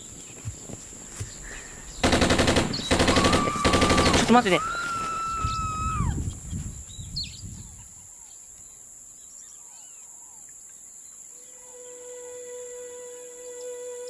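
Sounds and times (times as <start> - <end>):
birds chirping: 0.0 - 12.1.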